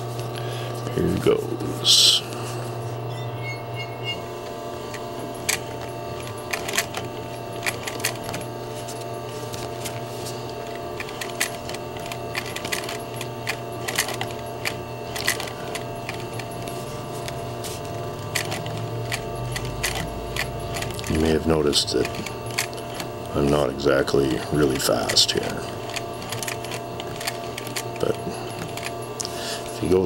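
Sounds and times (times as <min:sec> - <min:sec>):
sewing machine motor humming: 0:00.0 - 0:30.0.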